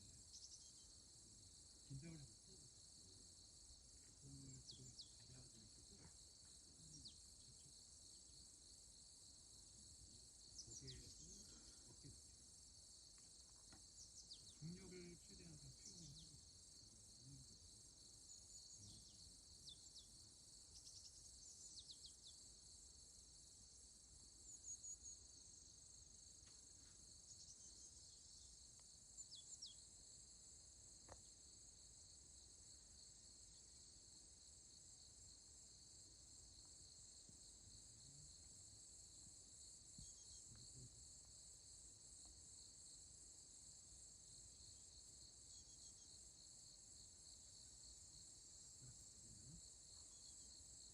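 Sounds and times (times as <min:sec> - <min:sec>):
crickets trilling: 0:00.0 - 0:50.9.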